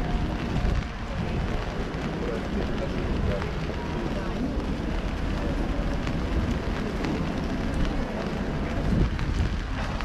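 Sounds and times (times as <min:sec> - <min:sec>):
steady rain: 0:00.0 - 0:10.0
wind rumble on microphone: 0:00.0 - 0:10.0.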